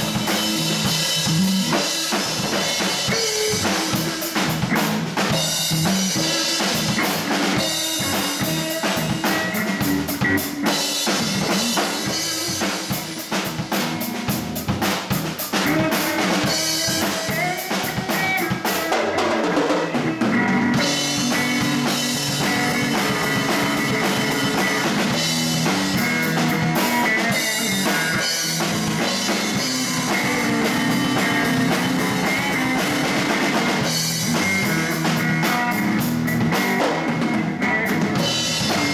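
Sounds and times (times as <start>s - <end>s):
blues band playing: 0.0s - 38.9s.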